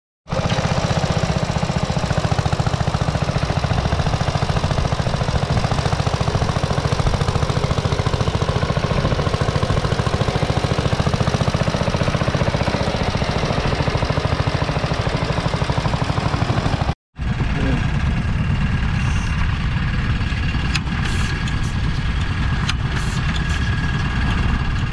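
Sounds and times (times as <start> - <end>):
single-cylinder tractor engine running: 0.3 - 24.9.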